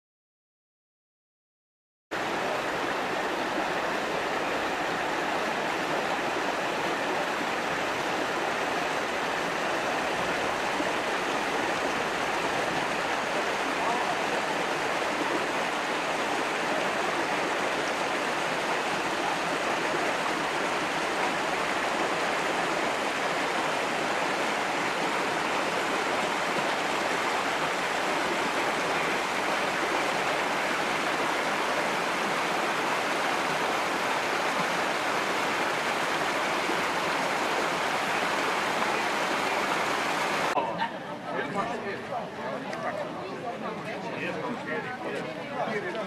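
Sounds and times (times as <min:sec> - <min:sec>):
water rushing over stones: 0:02.2 - 0:40.6.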